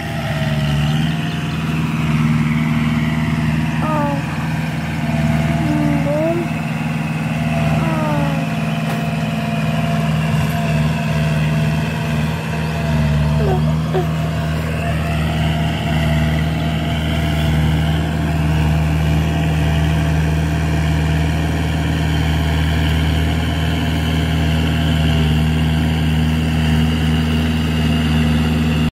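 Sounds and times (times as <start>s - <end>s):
tractor engine running: 0.0s - 28.9s.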